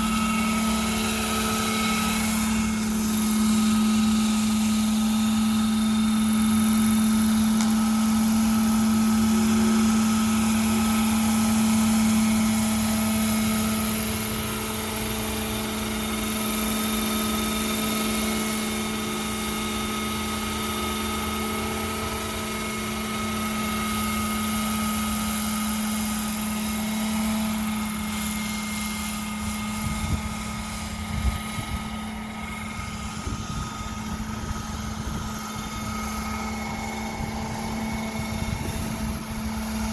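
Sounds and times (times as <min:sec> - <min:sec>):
rc helicopter high-pitched whine: 0:00.0 - 0:39.9.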